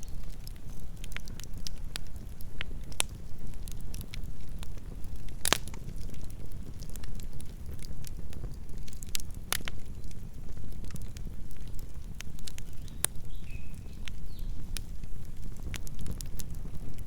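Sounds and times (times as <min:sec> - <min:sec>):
campfire burning: 0:00.0 - 0:17.0
wood crackling and popping: 0:00.0 - 0:17.0.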